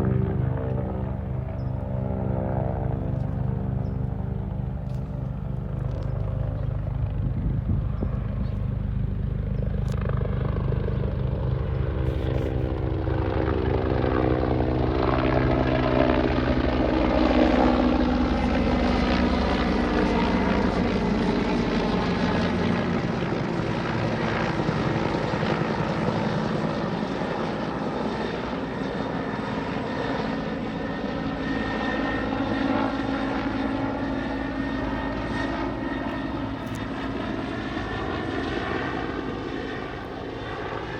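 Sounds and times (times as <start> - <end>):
helicopter engine whine: 0.0 - 40.9
helicopter rotor beating: 0.0 - 40.9.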